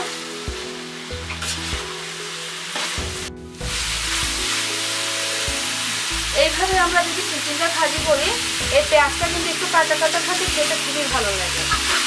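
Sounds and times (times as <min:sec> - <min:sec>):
background music: 0:00.0 - 0:12.0
vegetables sizzling in hot oil: 0:00.0 - 0:12.0.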